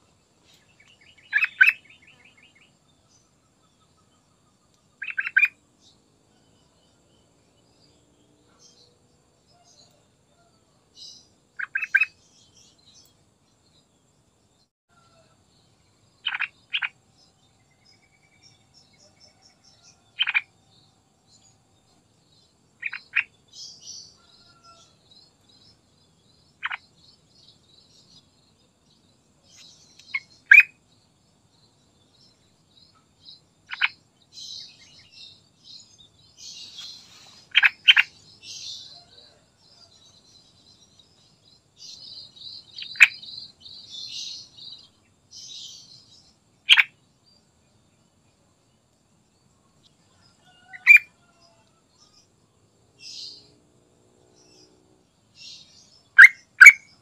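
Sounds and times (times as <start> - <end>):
faint high-pitched chirping: 0.0 - 53.6, 54.2 - 57.0.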